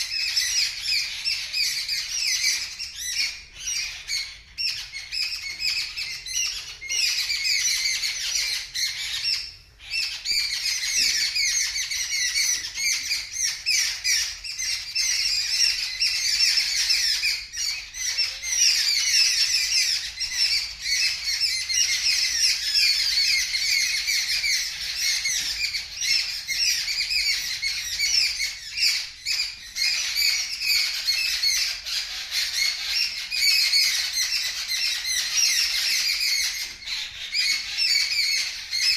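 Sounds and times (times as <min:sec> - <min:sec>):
flock of birds screaming: 0:00.0 - 0:38.9.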